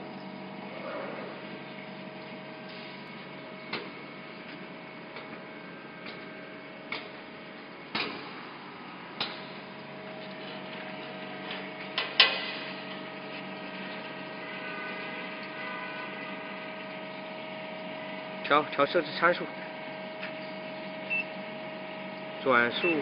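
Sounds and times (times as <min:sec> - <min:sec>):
machinery hum: 0:00.0 - 0:23.0.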